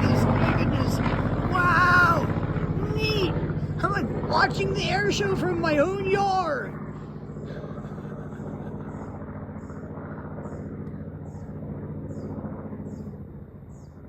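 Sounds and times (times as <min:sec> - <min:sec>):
aircraft engine drone overhead: 0:00.0 - 0:14.0.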